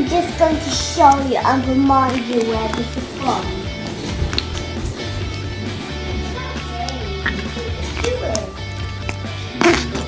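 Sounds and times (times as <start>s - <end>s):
background music with bass: 0.0s - 10.0s.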